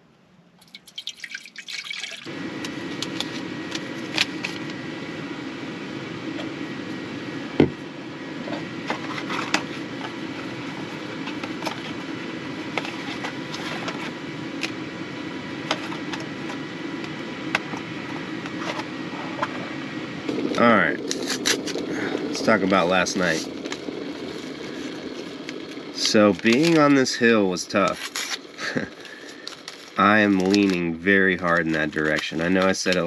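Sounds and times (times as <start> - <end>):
gas stove flame rushing: 2.3 - 33.0.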